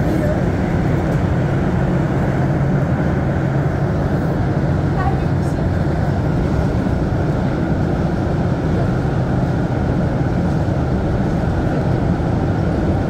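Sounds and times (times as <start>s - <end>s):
train running through tunnel: 0.0s - 13.0s.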